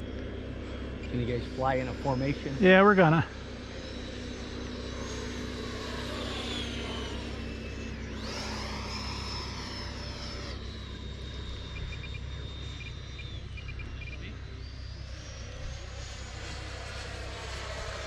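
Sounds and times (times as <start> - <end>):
model jet engines whining: 0.0 - 18.0
model jet passing by: 0.0 - 18.0.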